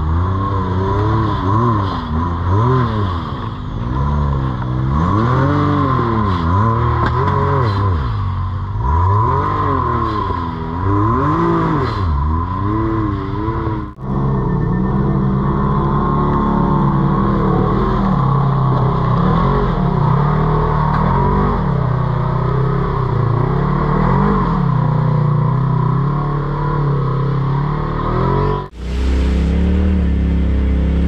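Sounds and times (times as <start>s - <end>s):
off-road vehicle engine revving: 0.0s - 31.0s.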